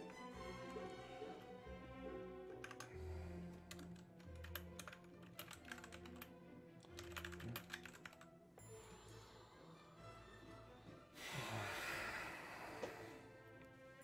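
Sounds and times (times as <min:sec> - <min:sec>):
quiet orchestral music: 0:00.0 - 0:14.0.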